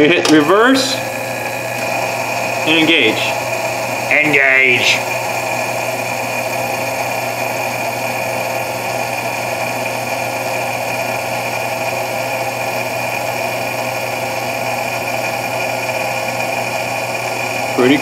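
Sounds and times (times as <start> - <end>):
lathe humming with high whine: 0.0 - 18.0.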